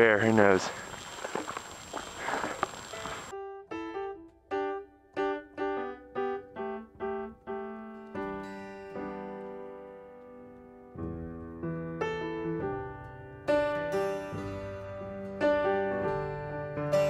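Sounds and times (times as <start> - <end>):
keyboard music: 2.9 - 17.0.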